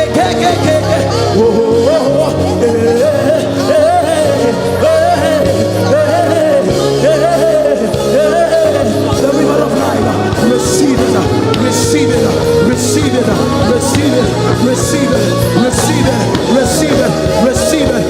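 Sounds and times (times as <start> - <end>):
keyboard chords: 0.0 - 18.0
low bass notes: 0.0 - 18.0
person singing with vibrato: 0.0 - 18.0.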